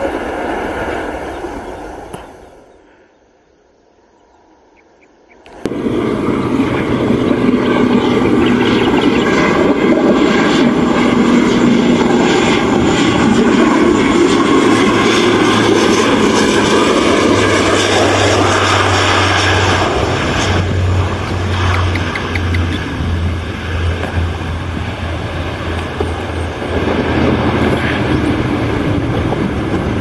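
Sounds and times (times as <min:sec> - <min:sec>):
aircraft engine noise: 0:00.0 - 0:03.0, 0:05.4 - 0:30.0
low hum: 0:05.5 - 0:30.0.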